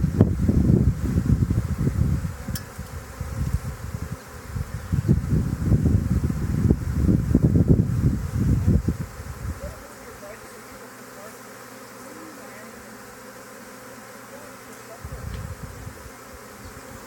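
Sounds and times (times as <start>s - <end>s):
bee swarm buzzing: 0.0s - 17.0s
bees flying past humming: 0.0s - 17.0s.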